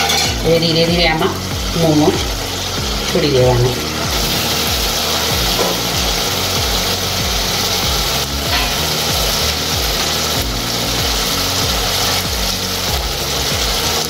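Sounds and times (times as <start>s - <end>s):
sauce sizzling in a pan: 0.0s - 14.0s
repeating musical bass line: 0.3s - 14.0s.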